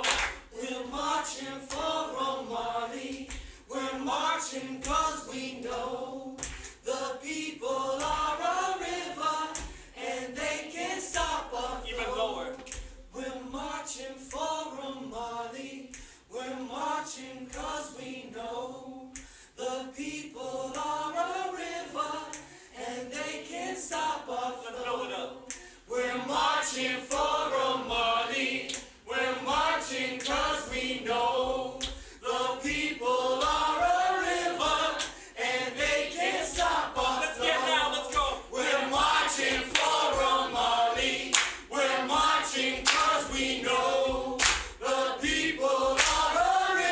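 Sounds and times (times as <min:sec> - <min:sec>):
group singing a cappella: 0:00.0 - 0:46.9.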